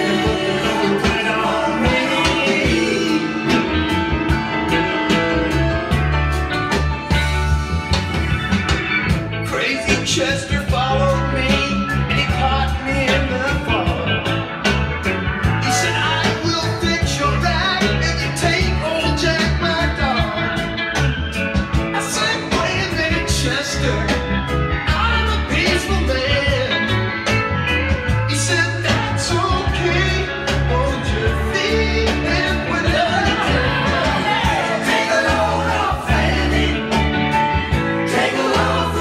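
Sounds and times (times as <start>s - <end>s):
song over loudspeakers: 0.0s - 39.0s.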